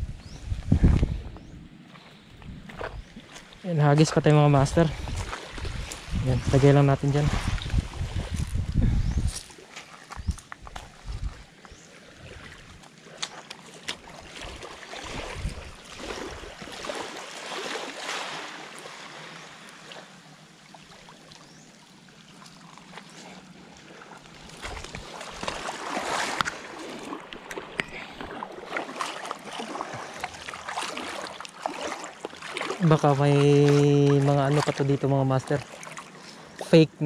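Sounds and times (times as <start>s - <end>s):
small waves lapping on gravel: 1.9s - 8.6s, 9.3s - 36.9s.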